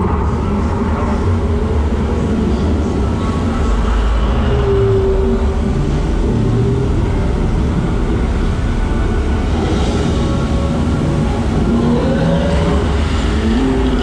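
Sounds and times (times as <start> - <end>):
boat rumbling through tunnel: 0.0 - 14.0.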